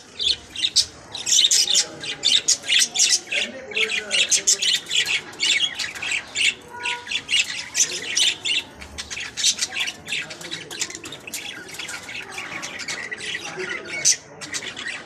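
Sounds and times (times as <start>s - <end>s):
lovebirds squawking and chirping: 0.0s - 15.0s.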